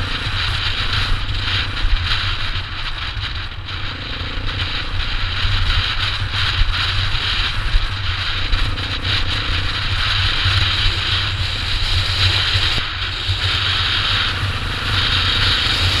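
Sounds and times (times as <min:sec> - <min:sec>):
dirt bike engine running: 0:00.0 - 0:16.0
wind on microphone: 0:00.0 - 0:16.0.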